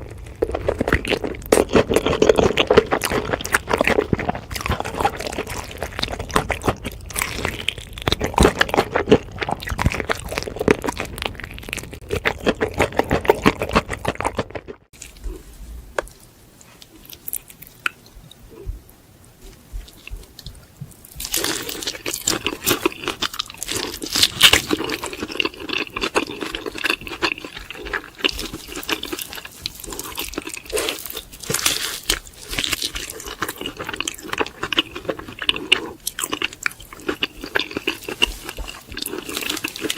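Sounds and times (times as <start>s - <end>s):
crunching fried chicken: 0.0s - 15.4s, 21.1s - 39.9s.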